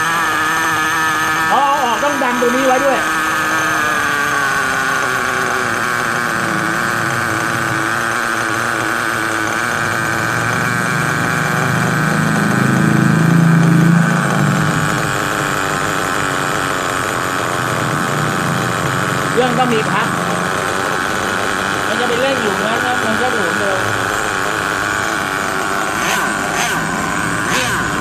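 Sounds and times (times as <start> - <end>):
small nitro engine running: 0.0 - 28.0.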